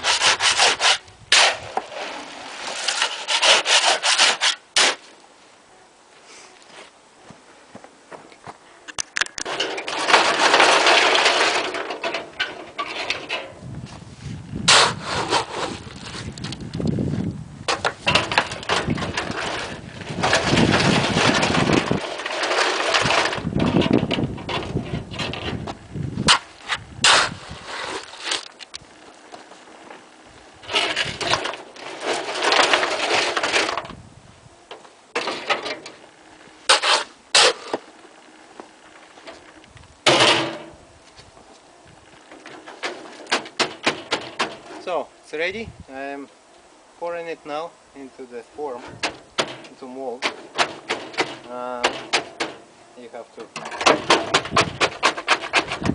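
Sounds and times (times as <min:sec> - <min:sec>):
gravel grinding in concrete mixer: 0:00.0 - 0:05.1, 0:09.0 - 0:34.0, 0:35.1 - 0:40.8, 0:47.0 - 0:55.9.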